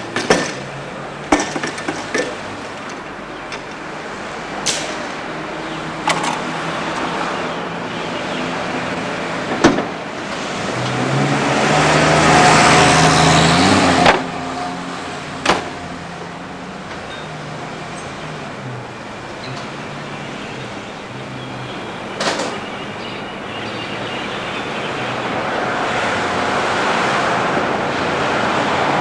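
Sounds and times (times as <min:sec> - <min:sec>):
tram hum and rumble: 0:00.0 - 0:29.0.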